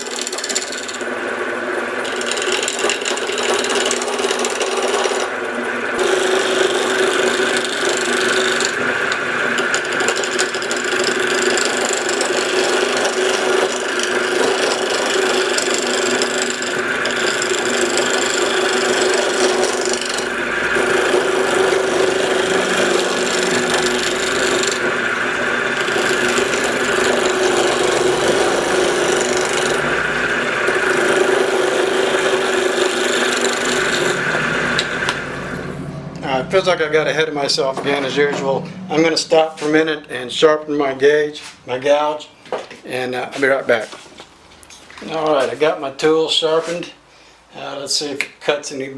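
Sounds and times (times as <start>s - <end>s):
gouge scraping spinning wood: 0.0s - 39.9s
lathe humming: 0.0s - 40.5s.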